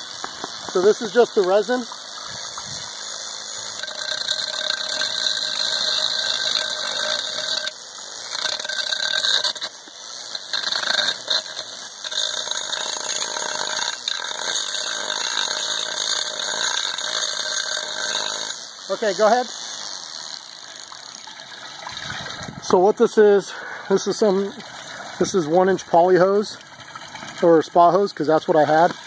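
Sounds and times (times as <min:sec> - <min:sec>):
drill running with rattle: 0:00.0 - 0:29.0.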